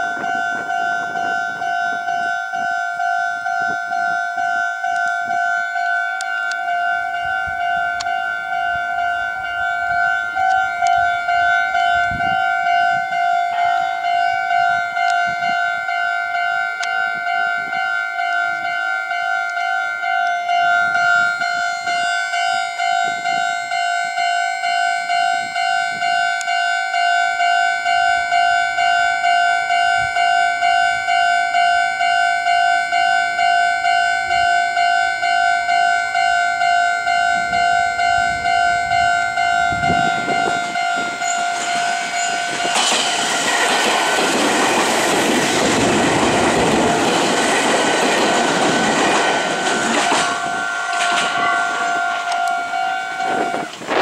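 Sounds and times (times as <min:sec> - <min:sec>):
level crossing bell ringing: 0:00.0 - 0:44.4, 0:45.8 - 0:53.8
electric train passing: 0:00.0 - 0:54.0.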